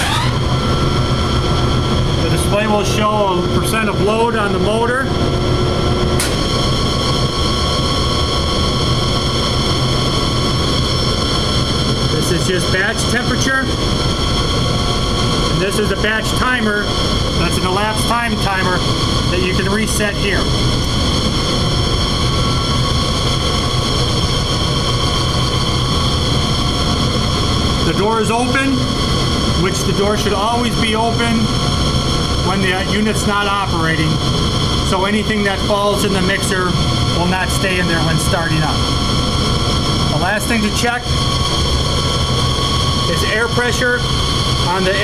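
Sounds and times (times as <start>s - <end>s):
industrial machinery drone with whine: 0.0s - 45.0s.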